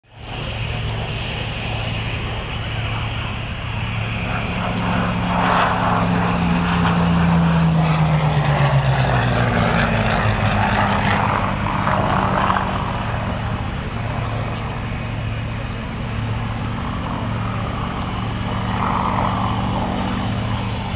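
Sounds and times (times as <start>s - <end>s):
propeller plane flying past: 0.0s - 20.9s.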